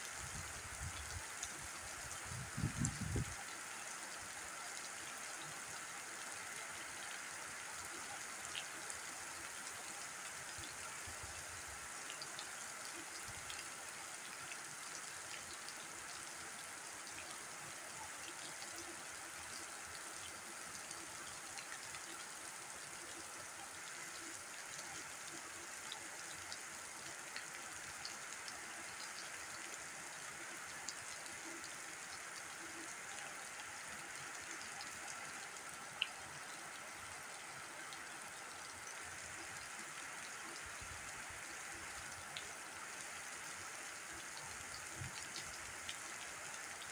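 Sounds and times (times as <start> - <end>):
rain hissing on ground: 0.0 - 46.9.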